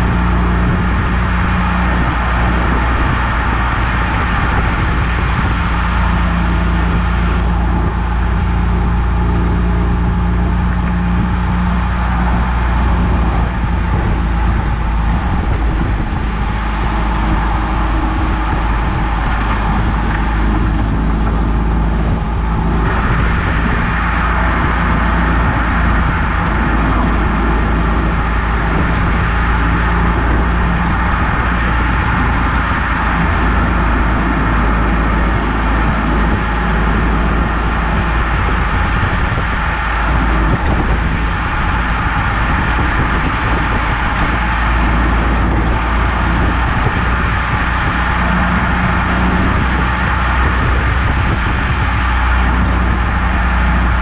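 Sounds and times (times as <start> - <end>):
car engine drone: 0.0 - 54.0
road and wind noise: 0.0 - 54.0.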